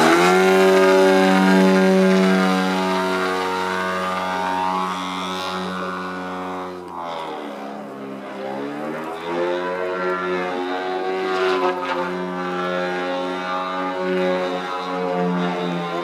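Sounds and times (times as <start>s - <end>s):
model plane engine buzz: 0.0s - 16.0s.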